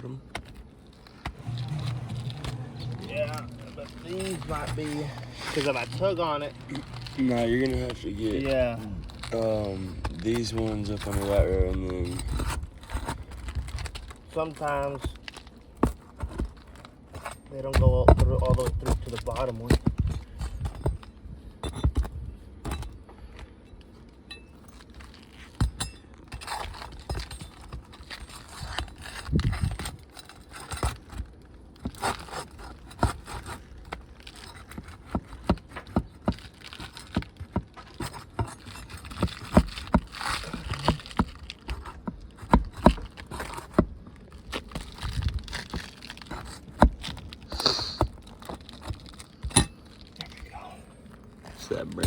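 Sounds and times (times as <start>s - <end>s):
pry bar scraping on shingles: 0.0s - 52.0s.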